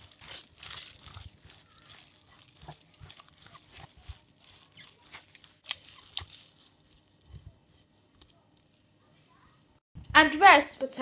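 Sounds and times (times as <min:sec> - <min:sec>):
hands squishing raw mince: 0:00.0 - 0:09.8.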